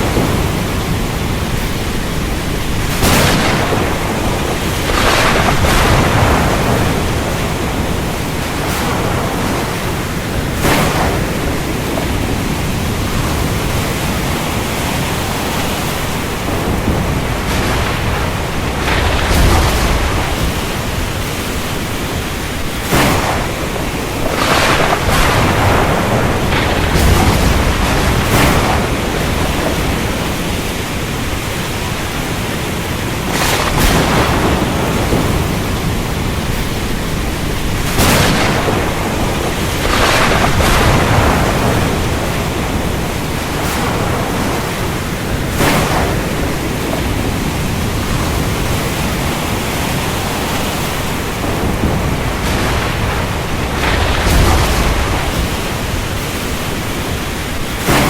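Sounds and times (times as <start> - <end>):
heavy rain falling: 0.0 - 58.0
low thunder rumbles: 0.0 - 58.0
sharp thunder cracks: 0.0 - 58.0.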